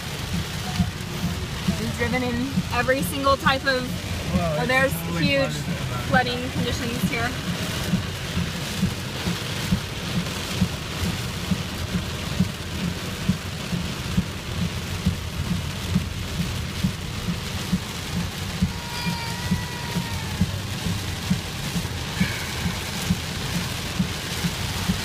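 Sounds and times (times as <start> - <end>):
regular low thump: 0.0 - 18.8, 20.4 - 25.0
heavy rain on car roof: 0.0 - 25.0.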